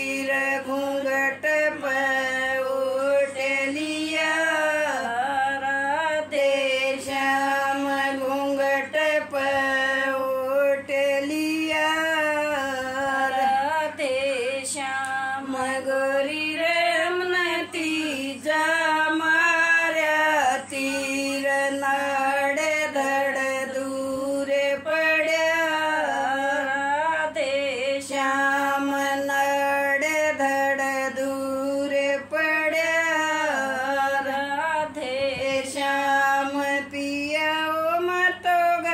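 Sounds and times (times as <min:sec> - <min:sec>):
elderly woman singing unaccompanied: 0:00.0 - 0:38.9.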